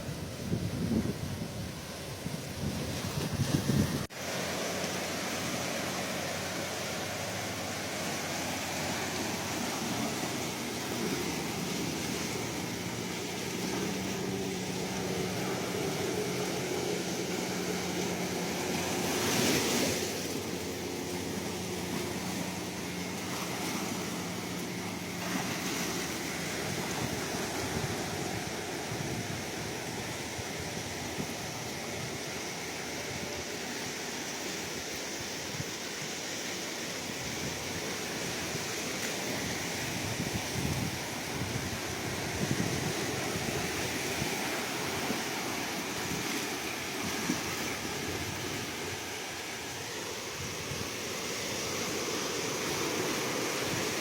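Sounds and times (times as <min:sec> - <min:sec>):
ocean waves washing: 0:00.0 - 0:54.0.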